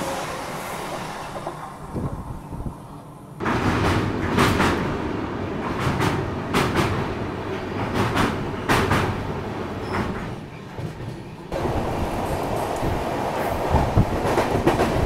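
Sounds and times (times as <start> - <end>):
train rumble on a bridge: 0.0 - 15.0.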